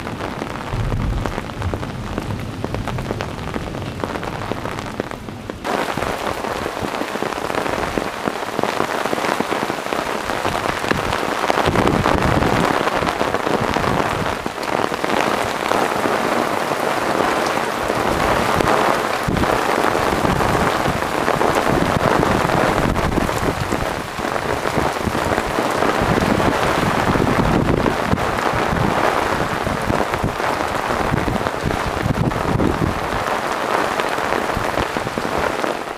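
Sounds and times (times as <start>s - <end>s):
heavy rain pattering on concrete: 0.0s - 35.9s.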